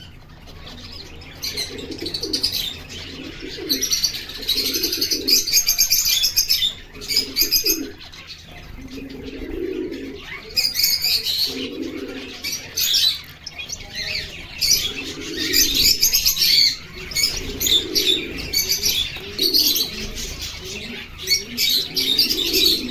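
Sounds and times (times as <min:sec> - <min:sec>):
low cooing: 0:00.0 - 0:08.0, 0:08.7 - 0:13.2, 0:13.8 - 0:22.9
finches chirping: 0:00.0 - 0:22.9.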